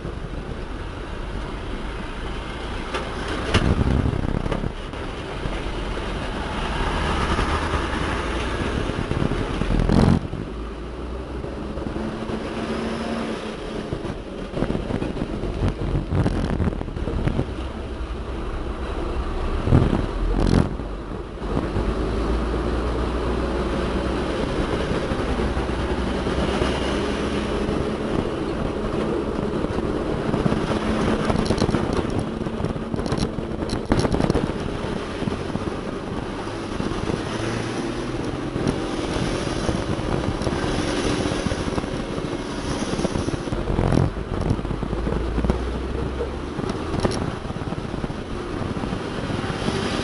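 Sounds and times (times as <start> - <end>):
heavy diesel machinery rumbling: 0.0 - 50.0.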